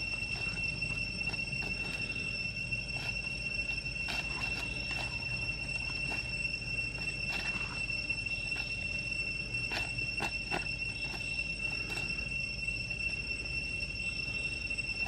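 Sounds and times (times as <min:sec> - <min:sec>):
dry leaves crackling: 0:00.0 - 0:13.5
high-pitched whine: 0:00.0 - 0:15.0.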